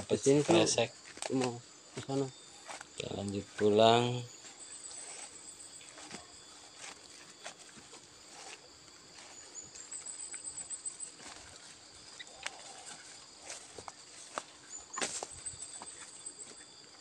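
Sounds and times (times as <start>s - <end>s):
insects chirring: 0.0s - 17.0s
pulsed insect trill: 0.0s - 17.0s
footsteps through tall grass: 2.6s - 17.0s.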